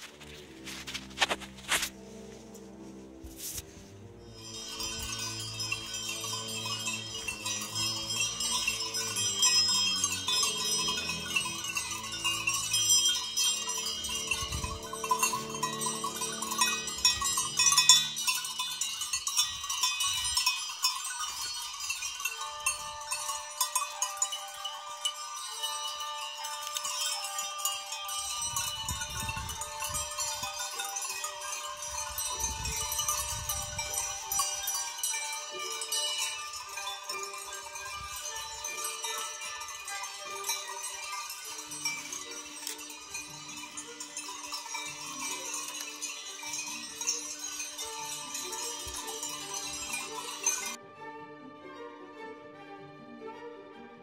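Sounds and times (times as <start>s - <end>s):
sheep bells clanking: 4.3s - 50.8s.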